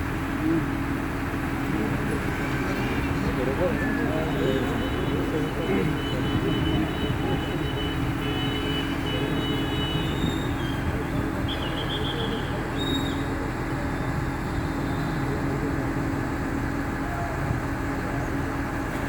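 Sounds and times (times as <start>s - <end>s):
large engine droning: 0.0s - 19.0s.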